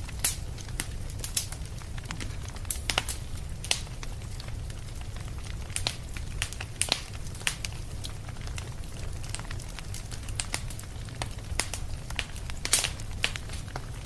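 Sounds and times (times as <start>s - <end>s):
fireplace fire crackling: 0.0s - 14.0s
low rumble of fire: 0.0s - 14.0s.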